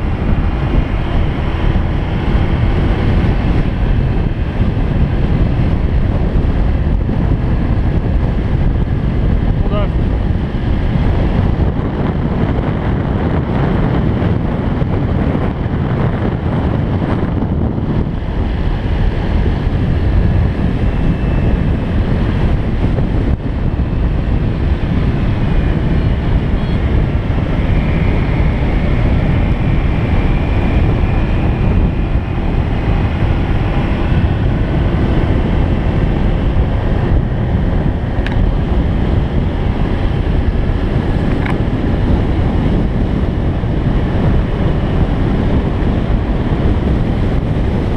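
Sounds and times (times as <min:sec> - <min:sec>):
wind on microphone: 0:00.0 - 0:47.9.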